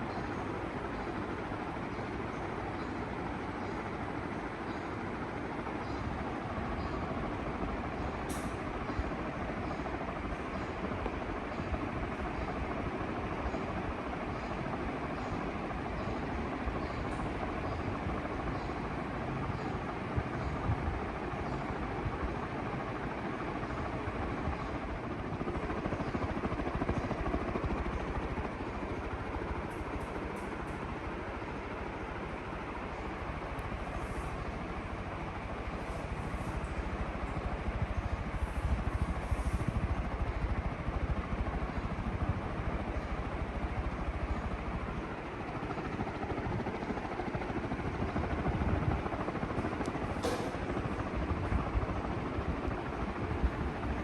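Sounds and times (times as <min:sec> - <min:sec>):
ceiling fan running: 0:00.0 - 0:54.0.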